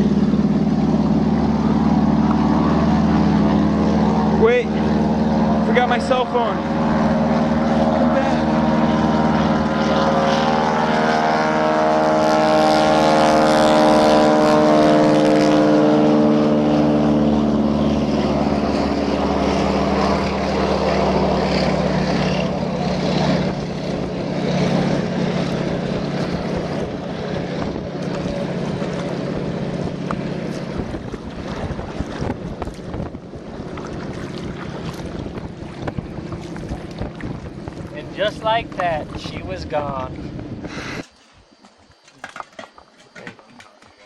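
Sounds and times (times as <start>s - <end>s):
propeller plane taking off: 0.0s - 41.6s.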